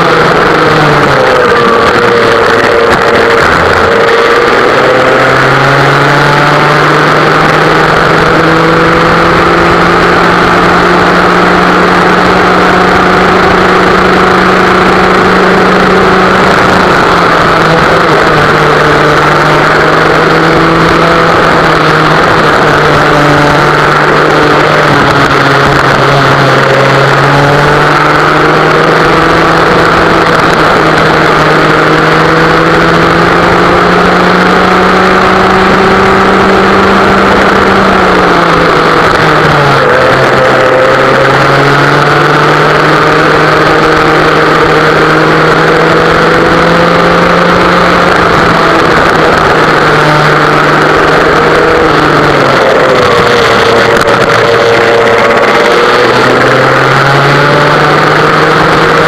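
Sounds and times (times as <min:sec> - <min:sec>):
two-stroke kart engine racing: 0:00.0 - 0:59.0.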